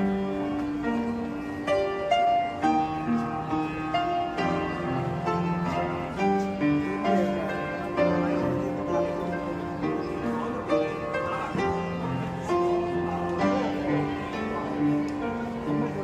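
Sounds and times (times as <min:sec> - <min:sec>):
instrumental music: 0:00.0 - 0:16.0.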